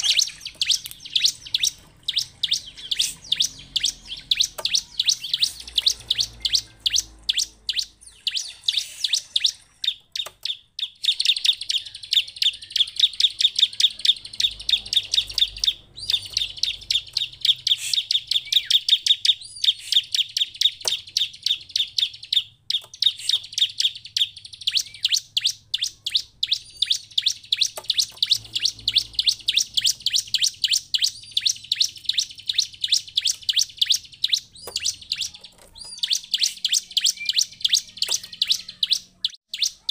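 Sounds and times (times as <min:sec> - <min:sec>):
bird high chirps: 0:00.0 - 0:39.9.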